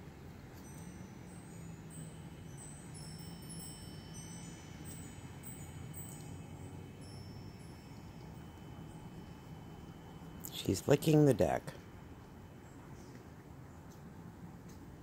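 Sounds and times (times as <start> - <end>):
faint wind chimes ringing: 0.0 - 15.0
low steady hum: 0.0 - 15.0.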